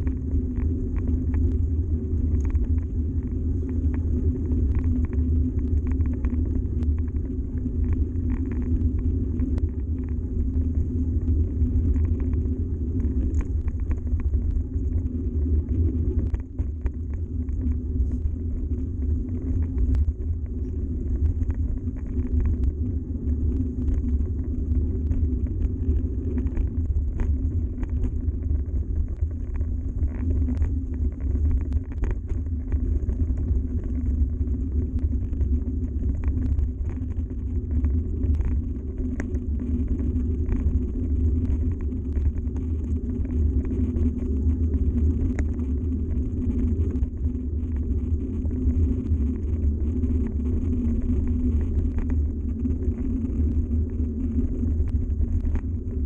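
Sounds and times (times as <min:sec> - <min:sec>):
bike tyres rumbling on gravel: 0:00.1 - 0:56.0.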